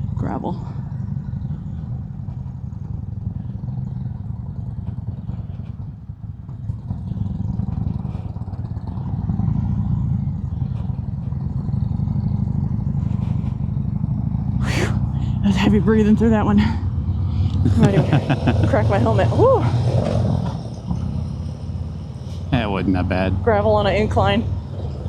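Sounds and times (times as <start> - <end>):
motorcycle engine at low speed: 0.0 - 25.0.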